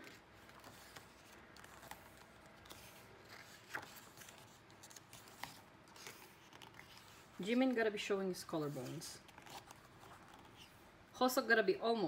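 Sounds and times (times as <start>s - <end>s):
book pages turning: 0.0s - 10.8s.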